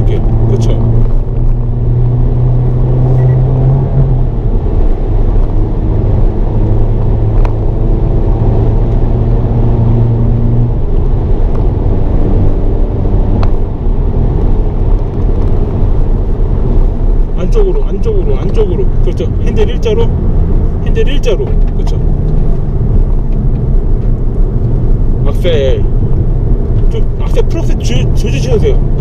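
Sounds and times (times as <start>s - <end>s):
car engine pulling hard: 0.0s - 29.0s
road and tyre noise: 0.0s - 29.0s.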